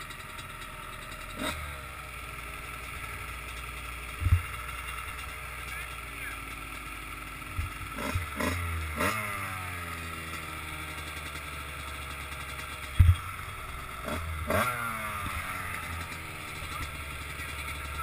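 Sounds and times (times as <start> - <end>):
dirt bike engine idling: 0.0 - 18.0
dirt bike engine revving hard: 1.3 - 18.0.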